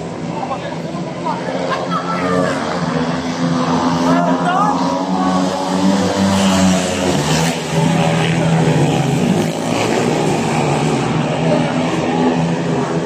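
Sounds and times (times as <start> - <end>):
motorcycles racing at high revs: 0.0 - 13.0.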